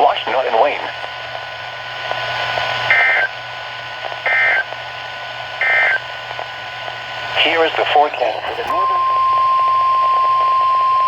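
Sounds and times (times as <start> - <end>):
receiver hiss and hum: 0.0 - 11.0.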